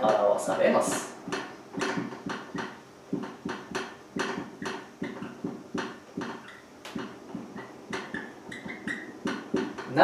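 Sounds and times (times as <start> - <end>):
marker pen writing on whiteboard: 0.0 - 10.0.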